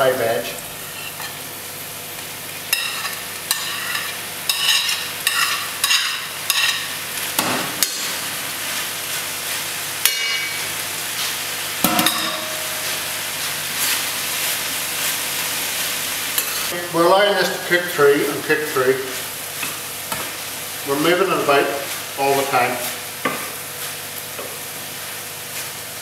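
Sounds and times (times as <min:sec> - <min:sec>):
food sizzling in frying pan: 0:00.0 - 0:26.0.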